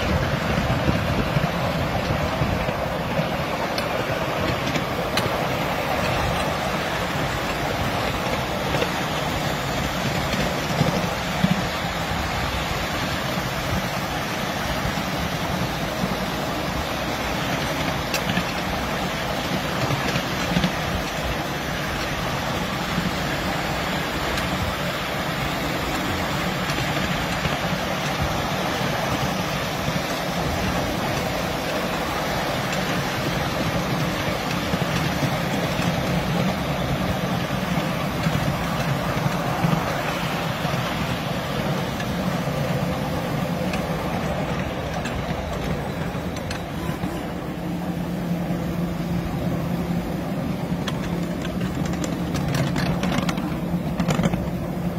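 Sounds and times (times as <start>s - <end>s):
miniature train rumbling on track: 0.0s - 54.9s.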